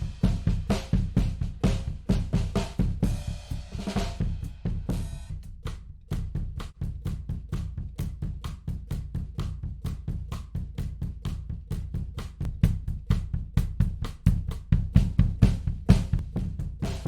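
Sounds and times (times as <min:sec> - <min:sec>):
drum kit groove: 0:00.0 - 0:17.0.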